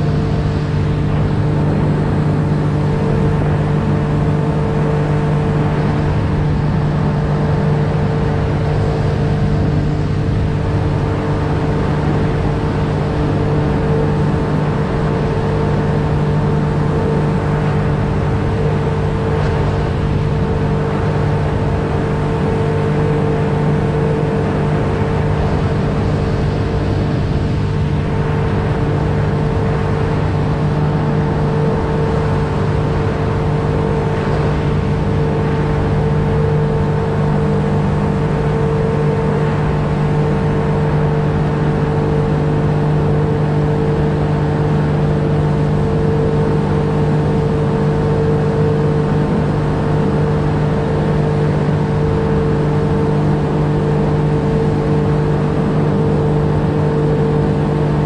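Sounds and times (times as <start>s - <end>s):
outboard motor droning: 0.0s - 58.0s.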